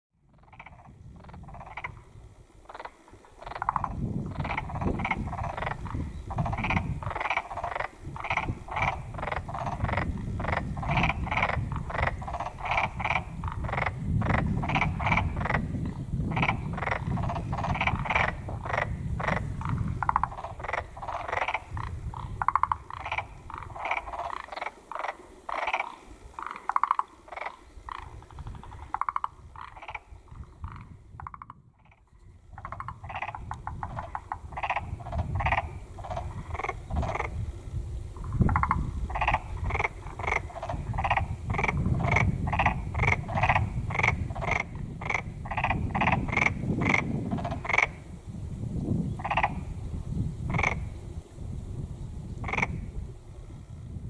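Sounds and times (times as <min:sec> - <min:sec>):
frog croaking: 0:00.2 - 0:48.2, 0:49.2 - 0:51.2, 0:52.3 - 0:53.6.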